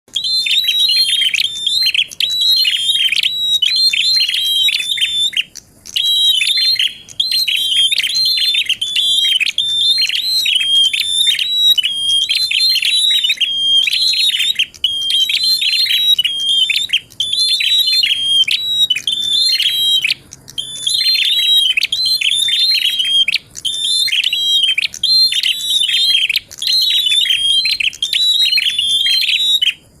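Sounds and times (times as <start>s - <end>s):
bird singing high chattering phrases: 0.1s - 30.0s.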